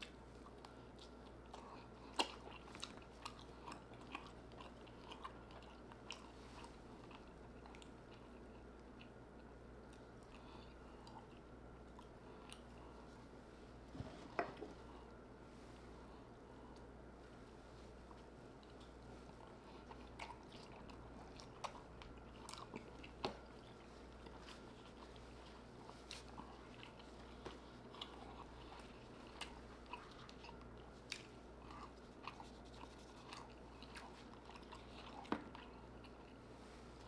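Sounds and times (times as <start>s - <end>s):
person chewing food: 0.0s - 15.2s, 17.8s - 37.0s
faint low hum: 0.0s - 37.0s.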